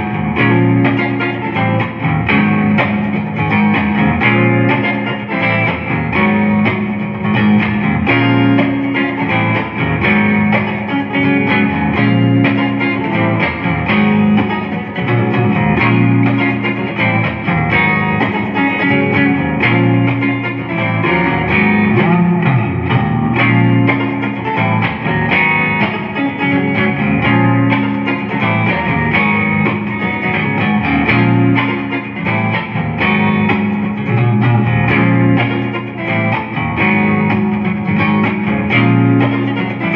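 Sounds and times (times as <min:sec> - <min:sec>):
clean electric guitar playing: 0:00.0 - 0:39.9.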